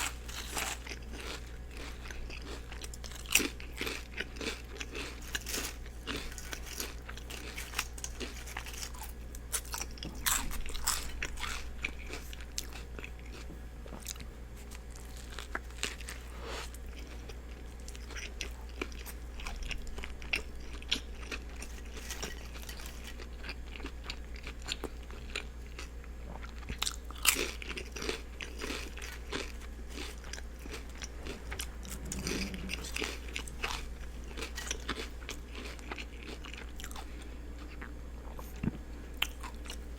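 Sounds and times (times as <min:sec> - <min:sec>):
chewing and wet crunches: 0:00.0 - 0:39.9
steady low hum: 0:00.0 - 0:39.9.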